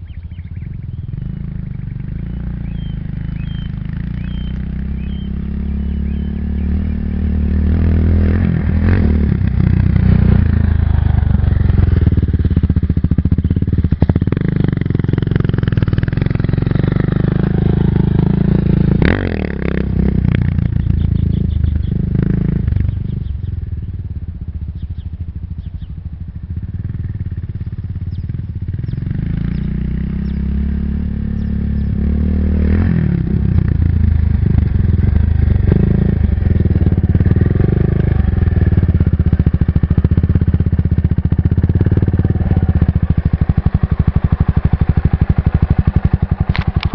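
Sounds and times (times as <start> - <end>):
dirt bike engine: 0.0 - 46.9.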